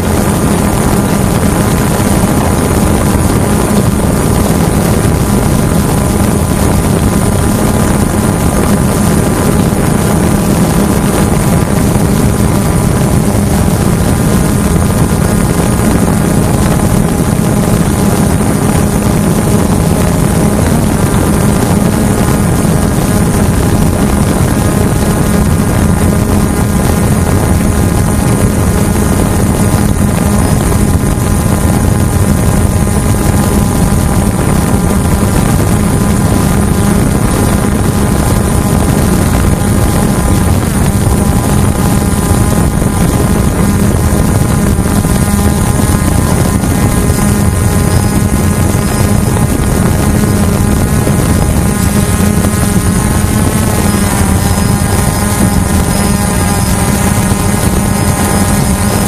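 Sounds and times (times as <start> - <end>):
quadcopter propellers whirring: 0.0 - 59.0.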